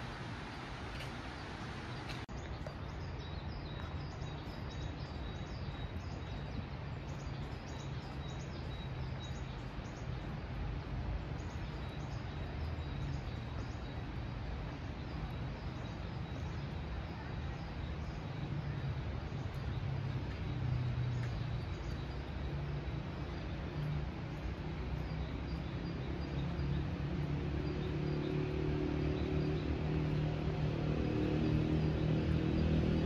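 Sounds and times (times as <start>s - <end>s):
outdoor background rumble: 0.0s - 33.0s
small birds chirping: 0.0s - 33.0s.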